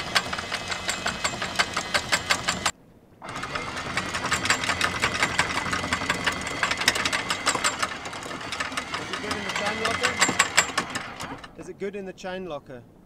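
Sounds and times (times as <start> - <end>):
anchor chain clattering: 0.0 - 11.7
windlass motor whine: 0.0 - 11.8.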